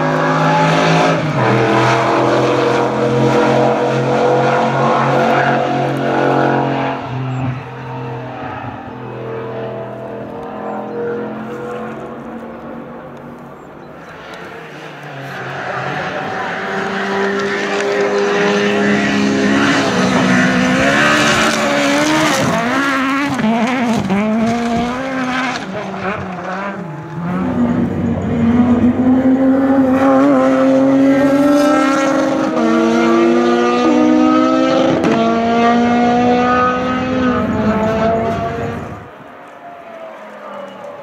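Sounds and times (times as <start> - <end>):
rally car engine revving: 0.0 - 39.2
rally car accelerating with upshifts: 0.0 - 39.3.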